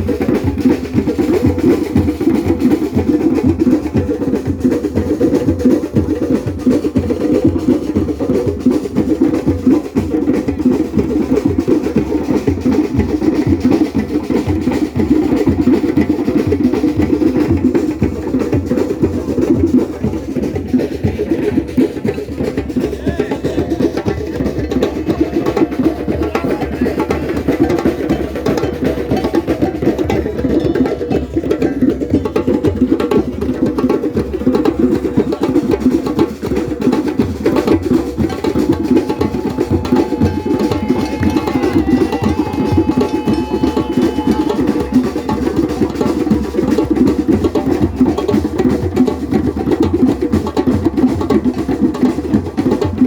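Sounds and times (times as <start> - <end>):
hand drum fast rhythm: 0.0 - 53.0.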